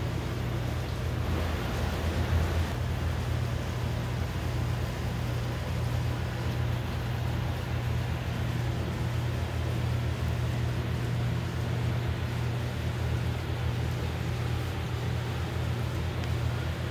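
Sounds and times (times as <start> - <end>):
low machine hum: 0.0 - 16.9.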